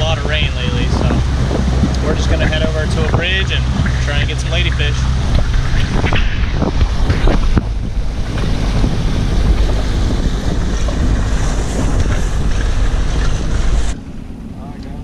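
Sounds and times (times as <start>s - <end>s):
motorboat engine drone: 0.0s - 15.0s
water rushing: 0.0s - 15.0s
wind buffeting microphone: 0.0s - 15.0s.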